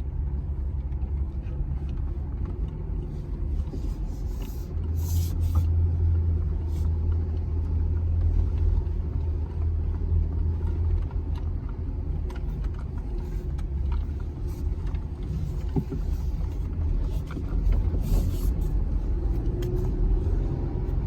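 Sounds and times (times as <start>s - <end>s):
engine low rumble from inside cab: 0.0s - 21.0s.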